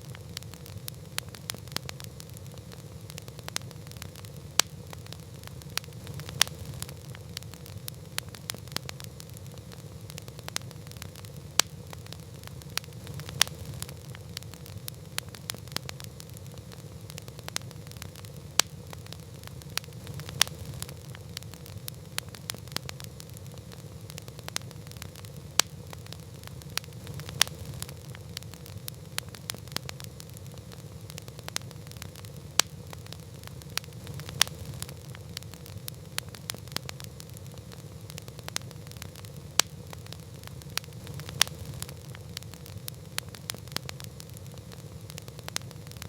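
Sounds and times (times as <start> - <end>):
campfire crackling and popping: 0.0 - 46.0.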